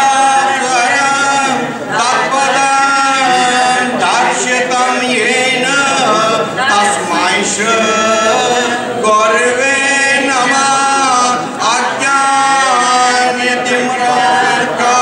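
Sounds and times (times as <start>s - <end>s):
group chanting a hymn: 0.0s - 15.0s.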